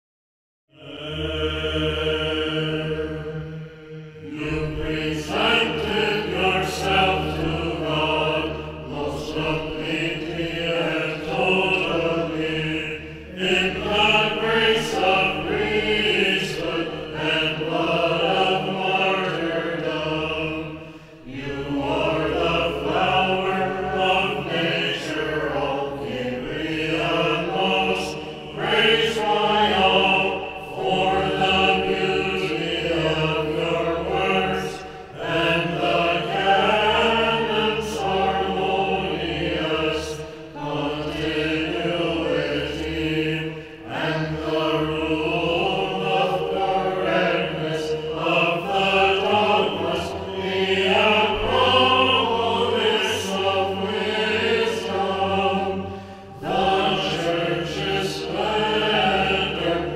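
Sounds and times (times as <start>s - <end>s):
chant over a held drone: 0.7s - 59.9s.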